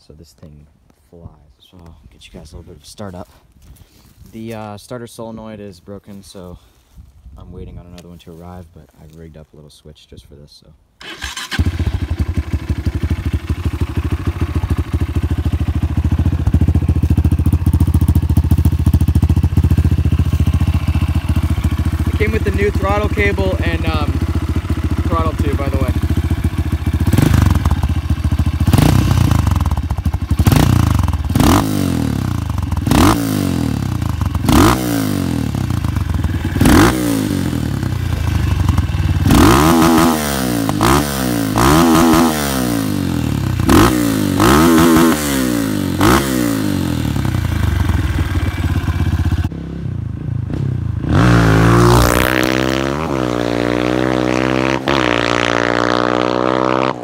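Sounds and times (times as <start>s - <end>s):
motorcycle engine revving: 11.0s - 57.0s
motorcycle running while ridden: 11.1s - 57.0s.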